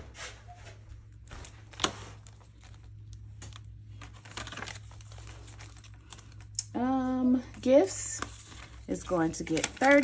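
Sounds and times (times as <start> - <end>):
plastic rustling of pages: 1.1 - 10.0.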